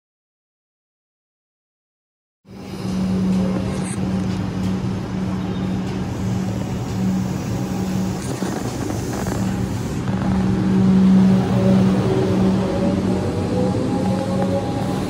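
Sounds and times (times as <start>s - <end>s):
heavy vehicle engine droning: 2.5s - 15.0s.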